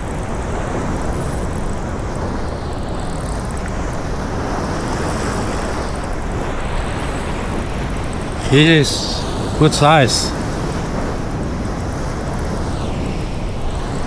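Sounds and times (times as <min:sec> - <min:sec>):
waves washing on shore: 0:00.0 - 0:14.0.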